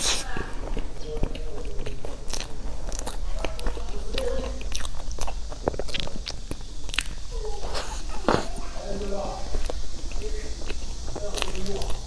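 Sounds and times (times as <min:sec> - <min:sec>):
person chewing pastry: 0:00.0 - 0:12.0.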